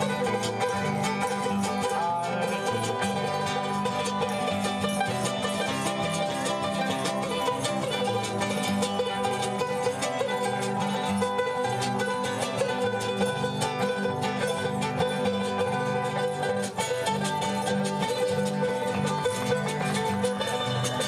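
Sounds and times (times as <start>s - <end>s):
strummed string dance music: 0.0s - 21.0s.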